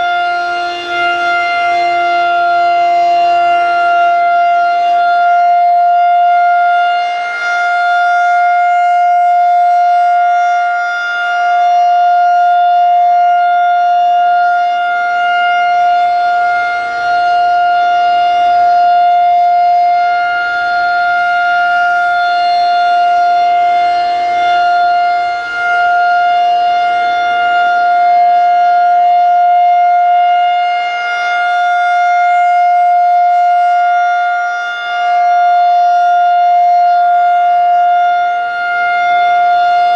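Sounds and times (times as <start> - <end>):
rotating tornado siren steady tone: 0.0 - 39.9.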